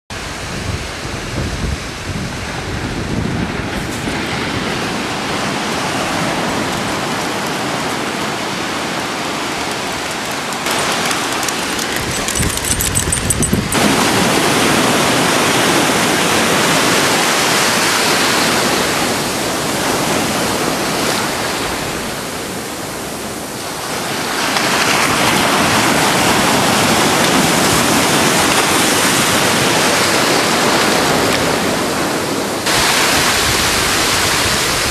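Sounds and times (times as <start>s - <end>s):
ocean surf breaking: 0.1s - 34.9s
wind rumbling on microphone: 0.1s - 34.9s.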